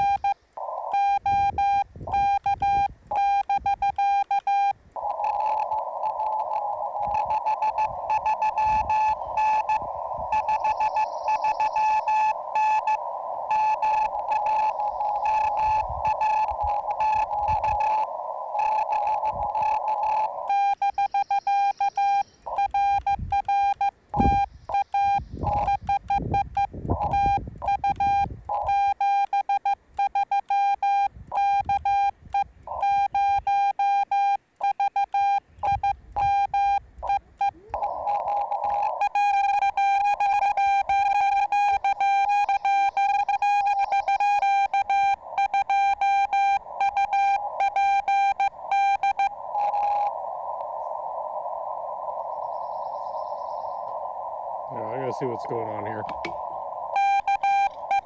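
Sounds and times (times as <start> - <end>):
radio band hiss: 0.0 - 29.0, 31.4 - 34.0, 34.6 - 58.0
morse code tone: 0.0 - 50.1, 56.9 - 58.0.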